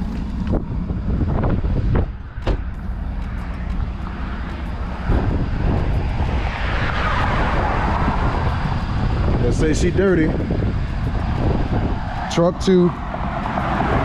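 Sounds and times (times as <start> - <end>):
engine rumbling: 0.0 - 14.0
rush of noise: 0.0 - 14.0.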